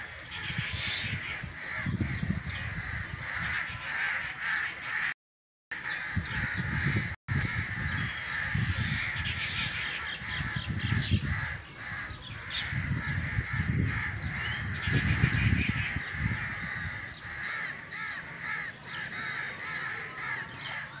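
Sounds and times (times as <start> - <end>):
wind on microphone: 0.0 - 4.6, 5.9 - 21.0
crows cawing: 0.0 - 21.0.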